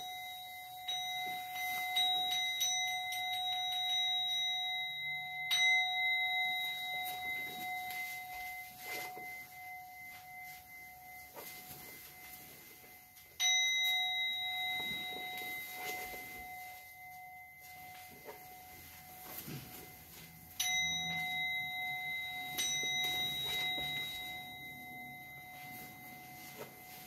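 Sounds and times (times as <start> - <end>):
bowl bell ringing: 0.0 - 27.0.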